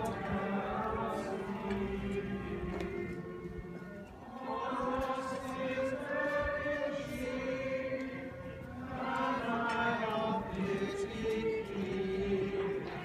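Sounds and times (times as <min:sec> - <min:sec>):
group singing a hymn: 0:00.0 - 0:13.0.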